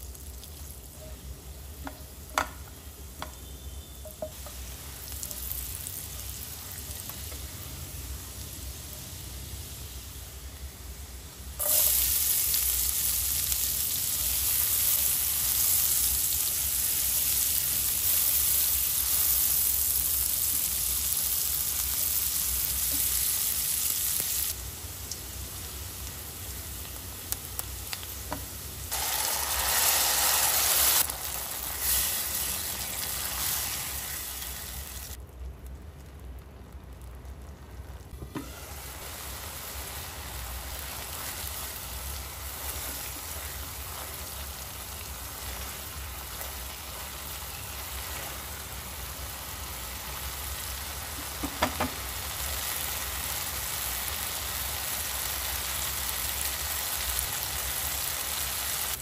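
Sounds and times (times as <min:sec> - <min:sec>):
food sizzling in a pan: 0:00.0 - 0:35.2, 0:38.1 - 0:59.0.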